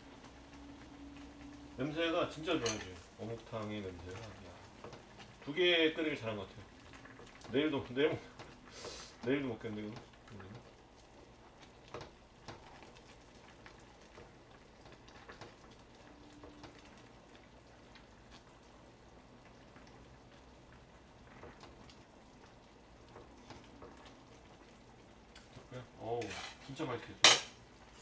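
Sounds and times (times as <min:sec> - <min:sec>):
soup simmering and bubbling: 0:00.0 - 0:28.0.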